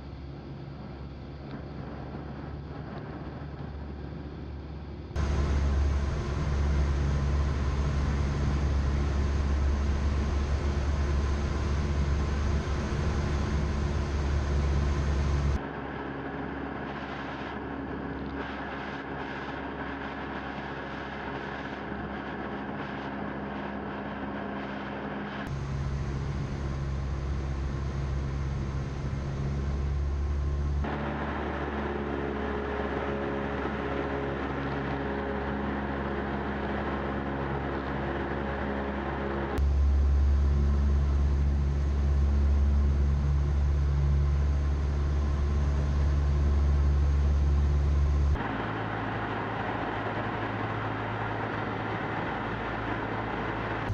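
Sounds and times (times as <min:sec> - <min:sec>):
light aircraft engine and propeller: 0:00.0 - 0:53.9.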